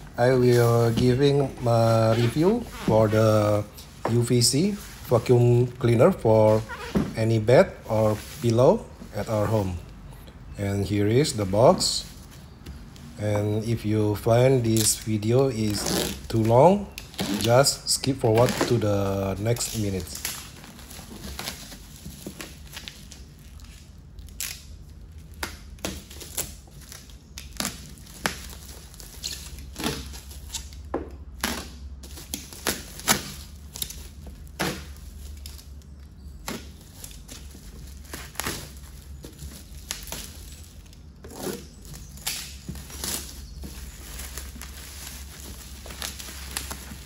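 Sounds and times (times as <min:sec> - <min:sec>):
bubble wrap crinkling: 0:00.0 - 0:10.1, 0:11.2 - 0:47.0.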